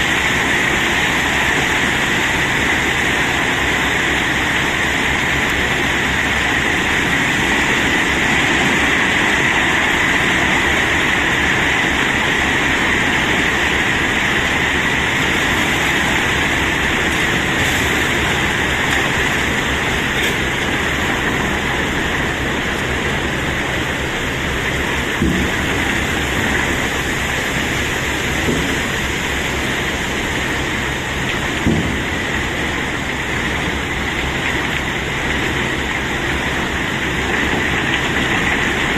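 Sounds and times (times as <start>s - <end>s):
cobblestones pouring: 0.0s - 38.9s.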